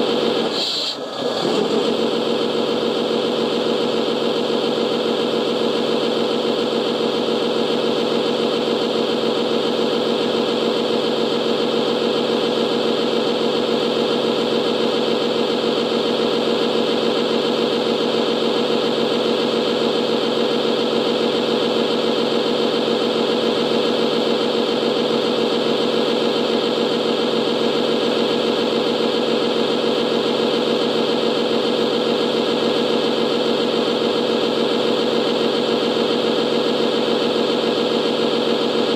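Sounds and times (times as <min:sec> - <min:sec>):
toy truck mechanical hum: 0:00.0 - 0:38.9.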